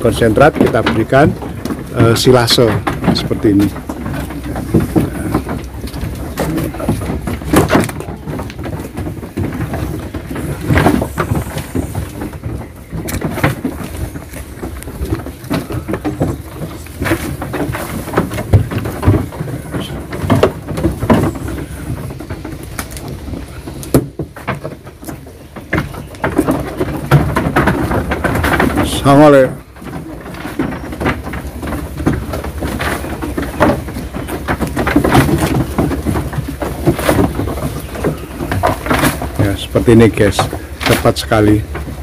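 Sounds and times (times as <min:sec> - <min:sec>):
feed rustling in plastic tub: 0:00.0 - 0:42.0
goats eating: 0:00.0 - 0:42.0
knocks on wooden boards: 0:00.0 - 0:42.0.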